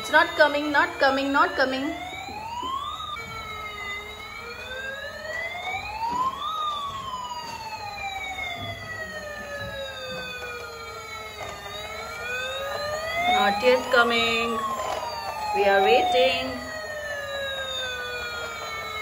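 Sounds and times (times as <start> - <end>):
toy electronic siren wailing: 0.0 - 19.0.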